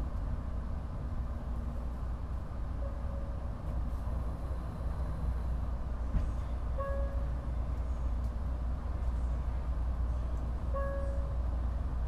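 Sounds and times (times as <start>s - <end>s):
train rumble at speed: 0.0s - 12.0s.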